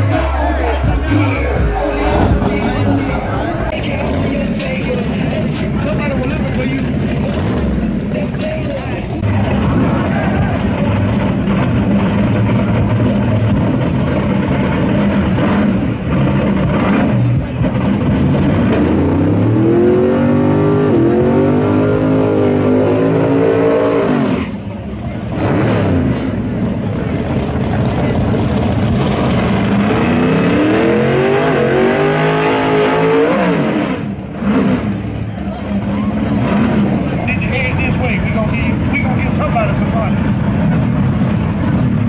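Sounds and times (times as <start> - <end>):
drag-race engines revving: 0.0 - 42.0.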